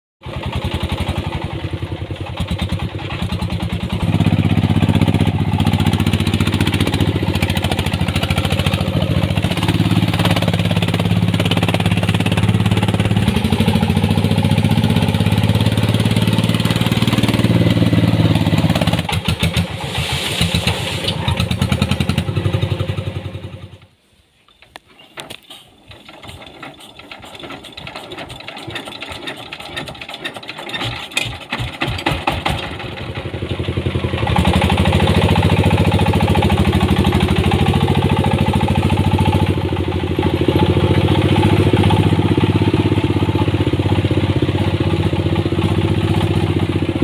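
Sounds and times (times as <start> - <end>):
diesel engine running: 0.2 - 23.9, 25.9 - 47.0.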